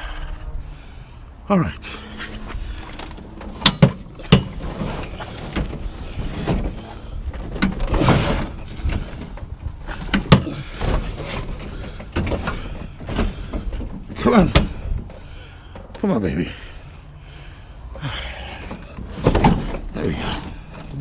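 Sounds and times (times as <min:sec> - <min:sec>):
grill scraping and rumbling: 0:00.0 - 0:21.0.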